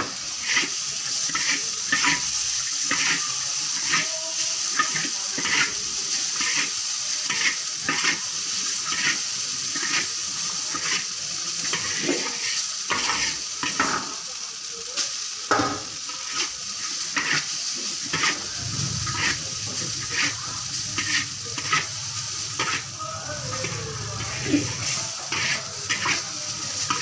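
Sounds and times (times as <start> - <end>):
noodles sizzling in a pan: 0.0 - 27.0.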